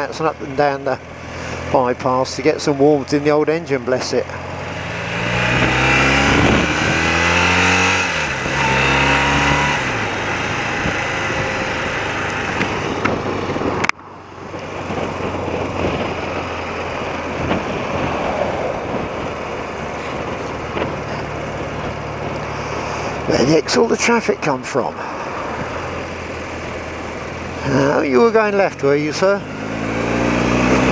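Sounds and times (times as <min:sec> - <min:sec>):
motorcycle engine pulling away: 0:00.0 - 0:30.9
rushing riding noise: 0:00.0 - 0:30.9.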